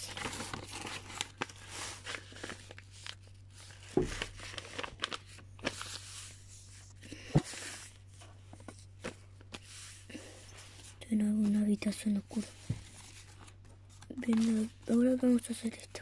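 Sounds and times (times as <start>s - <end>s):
paper rustling: 0.0s - 15.4s
low steady hum: 0.0s - 16.0s.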